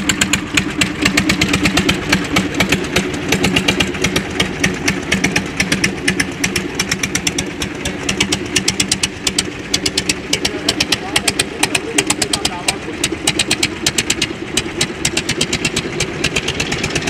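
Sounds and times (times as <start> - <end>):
tractor engines chugging: 0.0 - 17.0.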